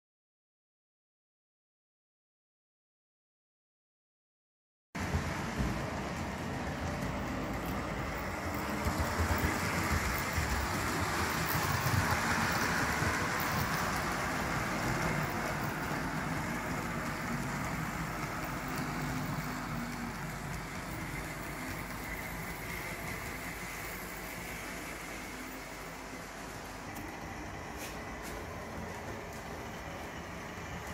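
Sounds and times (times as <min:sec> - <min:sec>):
model train rolling and motor: 0:05.0 - 0:30.9.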